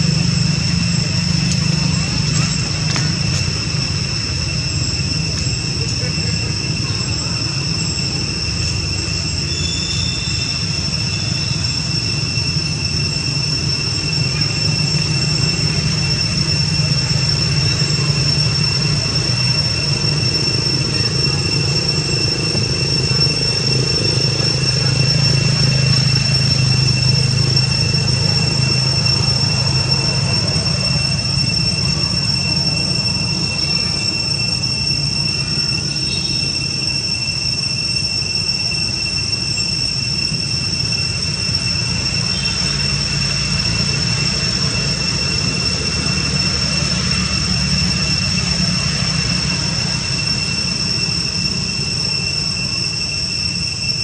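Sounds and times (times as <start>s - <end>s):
steady high-pitched whine: 0.0s - 54.0s.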